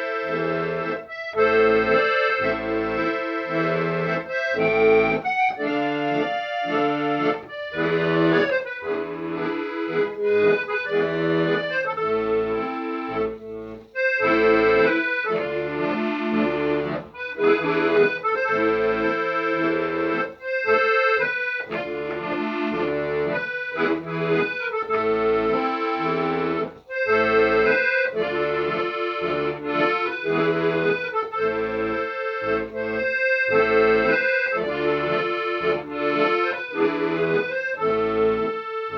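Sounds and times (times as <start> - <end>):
instrumental music: 0.0 - 38.9.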